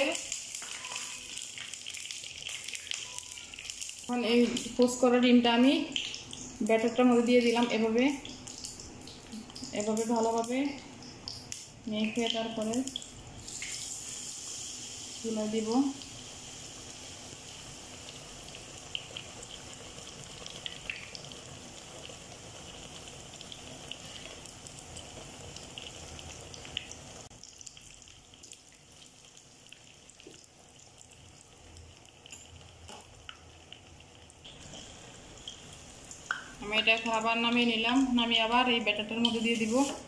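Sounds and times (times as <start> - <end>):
egg sizzling in hot oil: 0.0 - 40.0.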